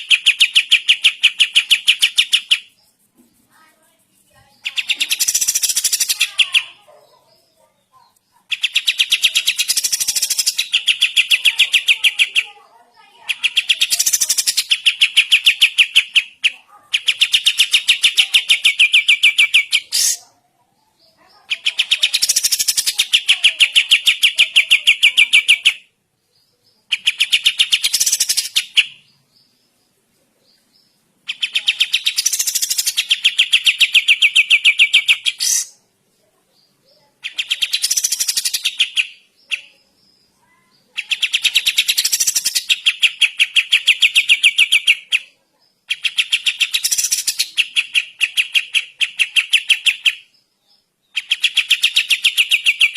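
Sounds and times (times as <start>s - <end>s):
songbird fast chattering song: 0.0s - 52.9s.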